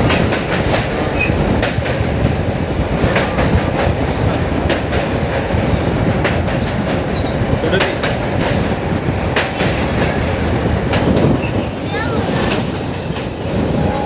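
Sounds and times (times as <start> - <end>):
rail joint clicks: 0.0 - 14.0
train wheels rumbling on rails: 0.0 - 14.0.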